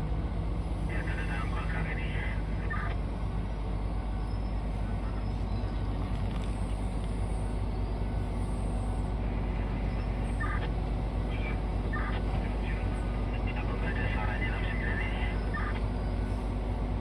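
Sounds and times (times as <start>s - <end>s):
heavy diesel engines running: 0.0s - 17.0s.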